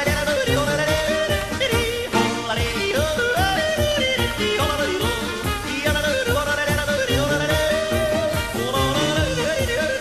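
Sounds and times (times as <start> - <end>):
upbeat song with yodeling: 0.0 - 10.0.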